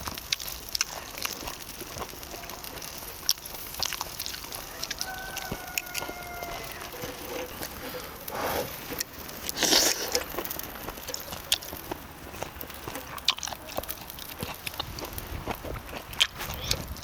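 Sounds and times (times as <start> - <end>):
person chewing and biting: 0.1 - 17.0.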